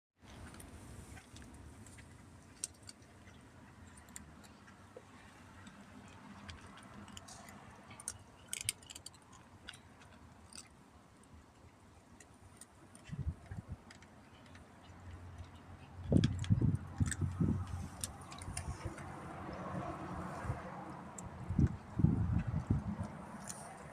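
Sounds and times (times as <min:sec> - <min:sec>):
cat chewing crunchy food: 0:00.3 - 0:23.7.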